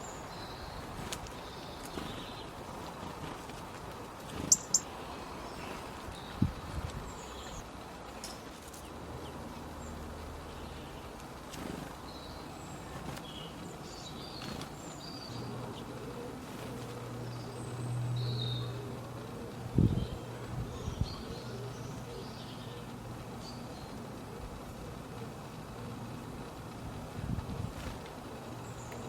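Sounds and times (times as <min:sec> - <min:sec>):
small birds chirping: 0:00.0 - 0:29.0
steady background hiss: 0:00.0 - 0:29.0.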